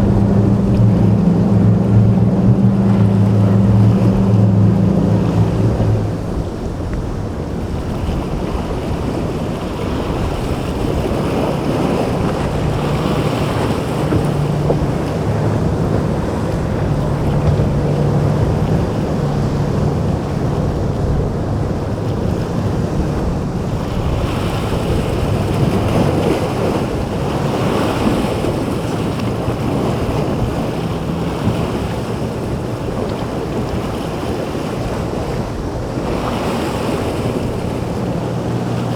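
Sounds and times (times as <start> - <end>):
boat motors humming: 0.0 - 38.9
waves breaking: 0.0 - 38.9
wind buffeting microphone: 0.0 - 38.9.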